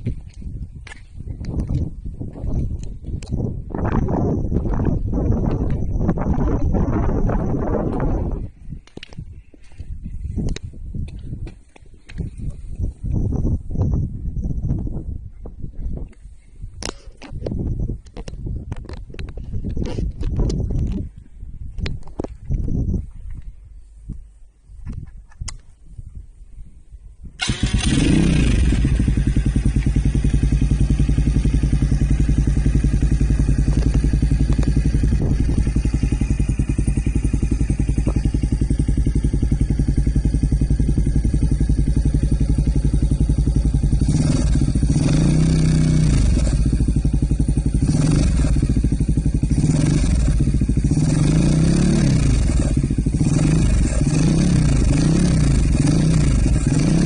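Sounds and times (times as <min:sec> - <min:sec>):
motorcycle engine idling and revving: 0:00.0 - 0:26.3, 0:26.9 - 0:57.0.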